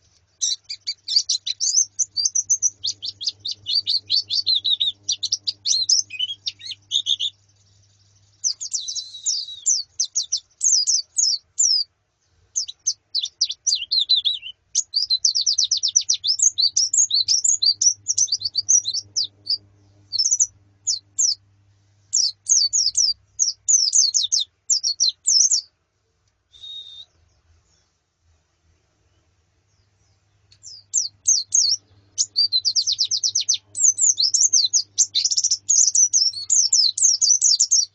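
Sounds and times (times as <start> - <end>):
bird chirps and twitters: 0.3 - 11.9, 12.6 - 21.4, 22.1 - 25.7, 29.2 - 37.9.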